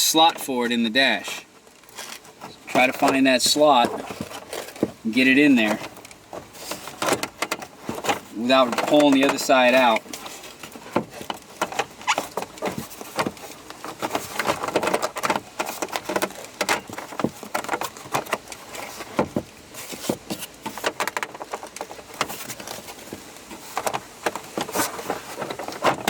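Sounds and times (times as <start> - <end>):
plastic dash cover clicking and scraping: 1.5 - 26.0.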